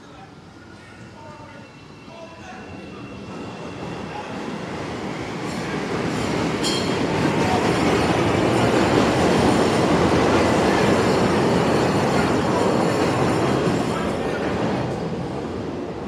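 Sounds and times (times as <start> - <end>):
train rumbling on rails: 1.4 - 16.0.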